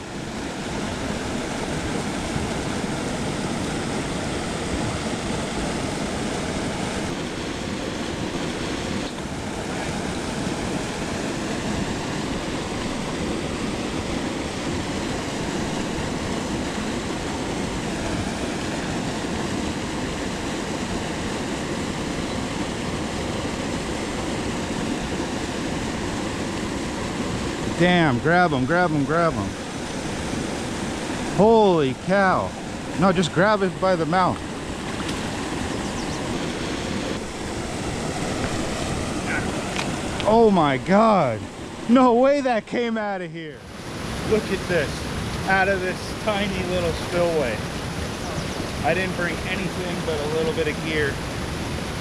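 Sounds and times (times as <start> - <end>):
water rushing over spillway: 0.0 - 52.0.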